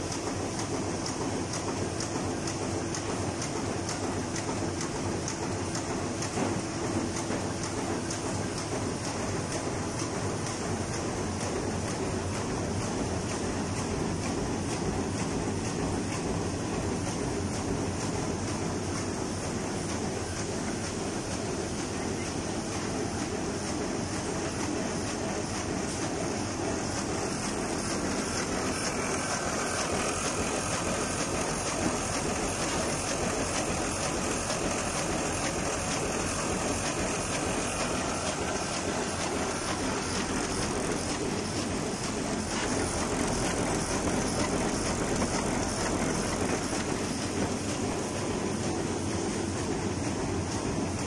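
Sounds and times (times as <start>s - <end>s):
book sewing machine clattering: 0.0s - 51.0s.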